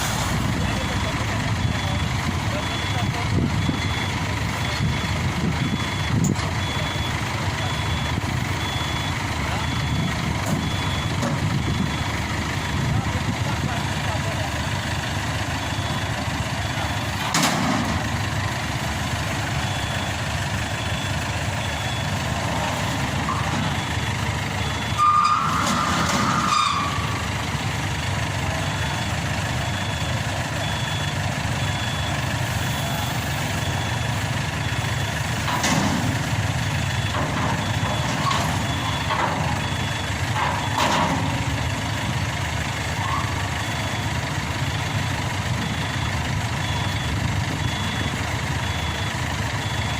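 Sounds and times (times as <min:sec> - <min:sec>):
heavy diesel engine running: 0:00.0 - 0:49.9
faint reversing alarm beeps: 0:00.2 - 0:49.9.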